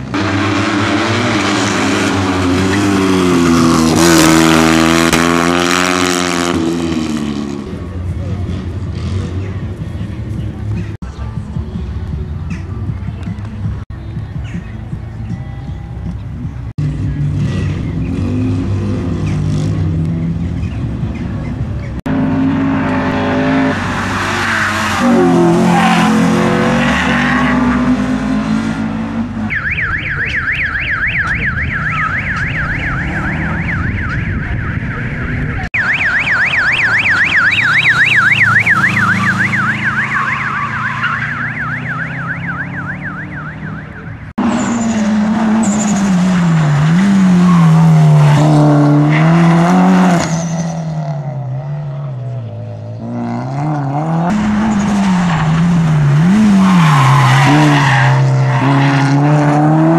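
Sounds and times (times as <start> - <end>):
rally car engines revving: 0.0 - 12.0, 16.3 - 59.9.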